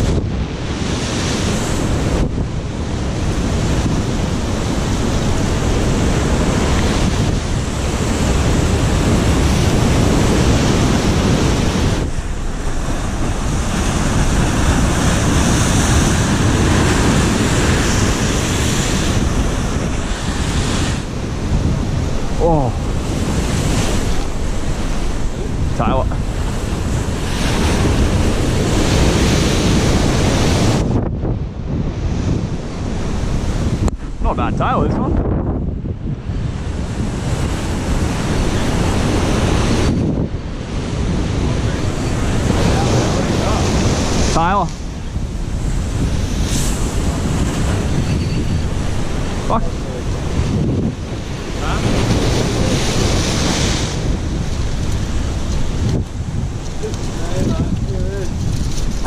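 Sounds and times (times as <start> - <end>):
surf crashing on concrete blocks: 0.0 - 31.0, 36.3 - 59.0
wind buffeting microphone: 0.0 - 59.0.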